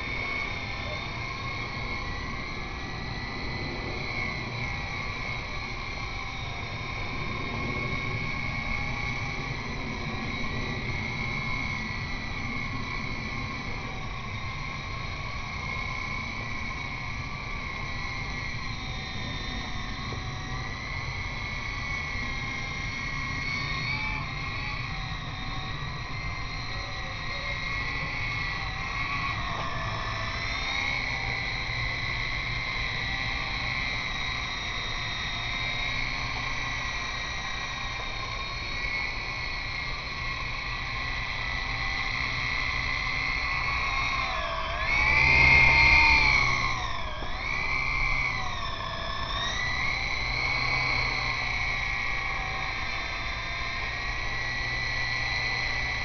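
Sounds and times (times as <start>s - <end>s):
rc helicopter whining: 0.0s - 56.0s
wind rumble on microphone: 0.0s - 56.0s.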